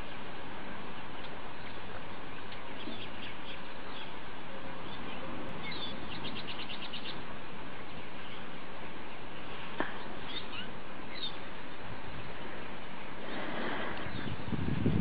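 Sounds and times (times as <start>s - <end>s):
small birds chirping: 0.0s - 14.6s
background hiss: 0.0s - 15.0s.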